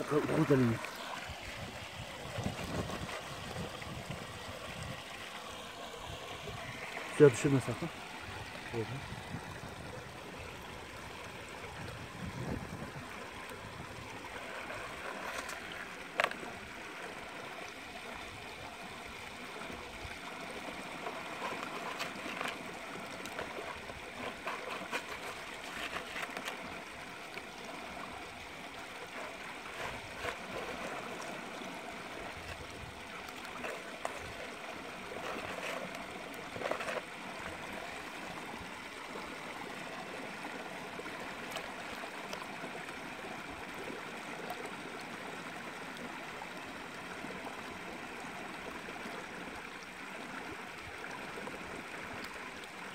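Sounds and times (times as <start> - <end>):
stream running and trickling: 0.0 - 52.9.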